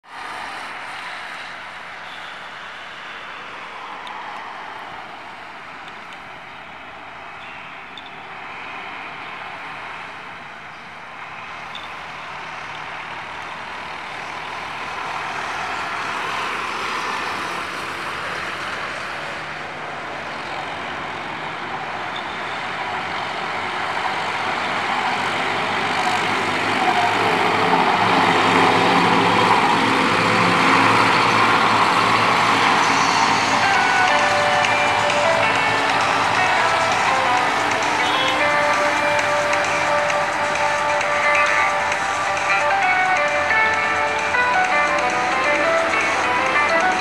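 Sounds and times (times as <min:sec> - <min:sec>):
heavy road traffic passing: 0:00.0 - 0:47.0
tractor diesel engine running: 0:09.0 - 0:47.0.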